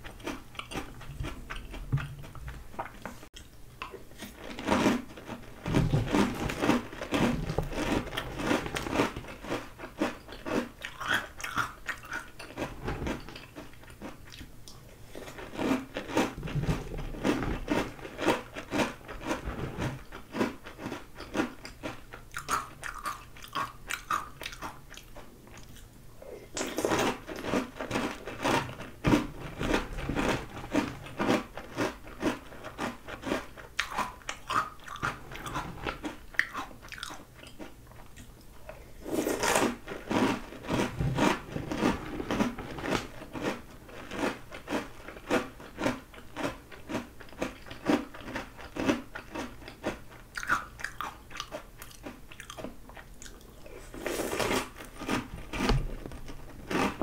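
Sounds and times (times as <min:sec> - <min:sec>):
crunching and chewing cereal: 0:00.0 - 0:57.0.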